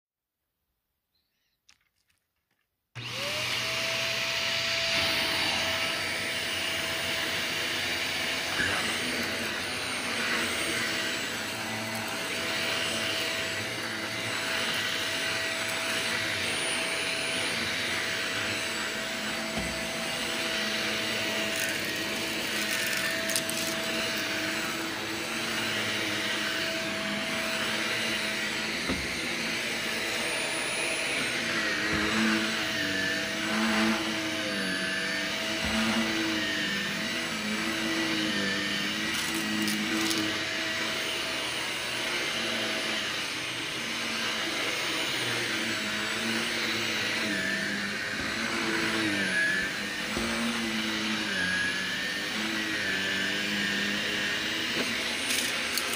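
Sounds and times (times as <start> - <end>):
upright vacuum cleaner motor whine: 3.0 - 55.9.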